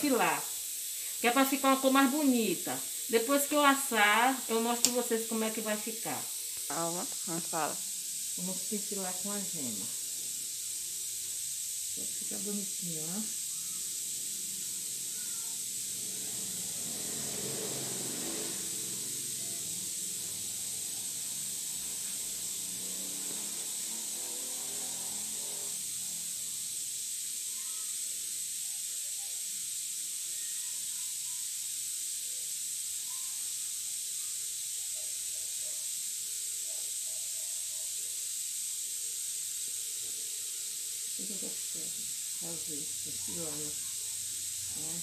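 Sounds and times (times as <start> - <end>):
high-pitched hiss: 0.0 - 45.0.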